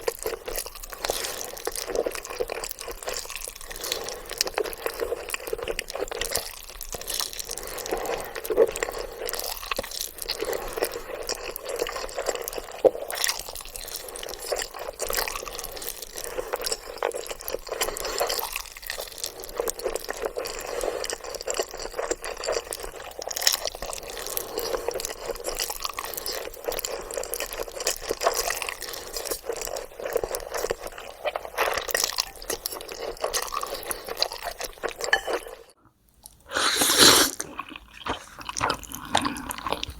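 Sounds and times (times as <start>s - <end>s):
noodles slurped and chewed: 0.0s - 39.9s.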